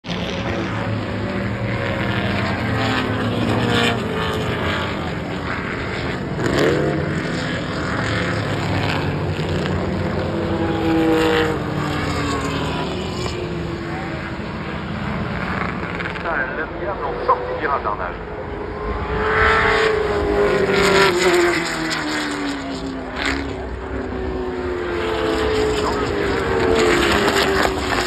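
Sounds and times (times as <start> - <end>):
racing cars passing: 0.0 - 28.0.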